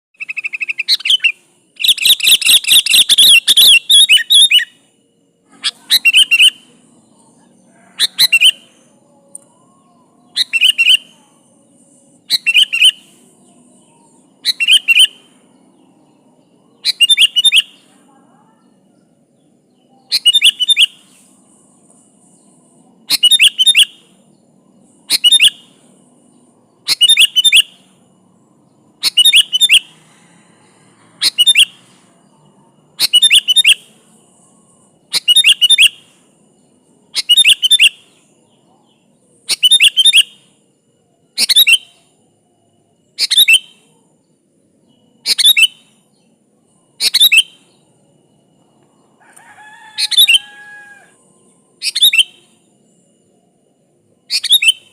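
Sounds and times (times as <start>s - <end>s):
bulbul singing whistled phrases: 0.2s - 42.4s, 43.0s - 48.7s, 50.0s - 50.6s, 51.3s - 53.4s, 54.2s - 54.9s.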